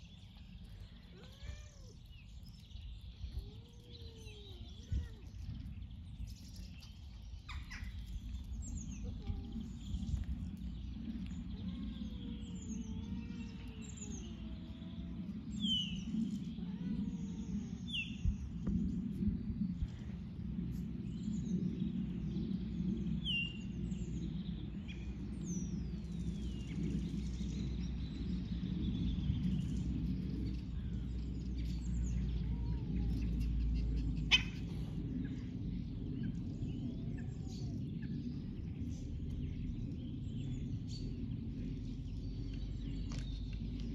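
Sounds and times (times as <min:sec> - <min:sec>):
songbirds chirping: 0:00.0 - 0:43.9
steady low rumble: 0:00.0 - 0:43.9.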